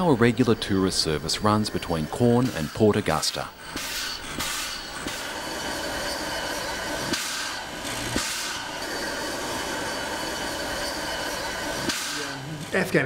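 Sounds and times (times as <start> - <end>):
steam locomotive hissing: 0.0 - 12.8.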